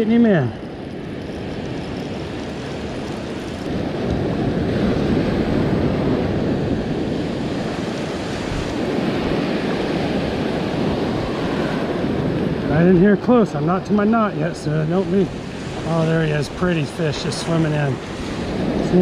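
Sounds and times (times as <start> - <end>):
wind buffeting microphone: 0.0 - 19.0
surf breaking on sand: 1.4 - 19.0.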